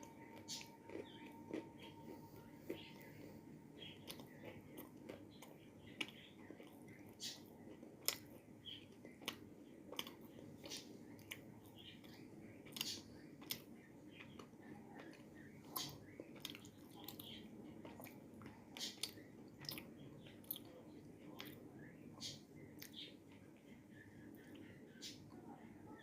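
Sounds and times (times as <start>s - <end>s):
clay being chewed crunching: 0.0s - 21.6s.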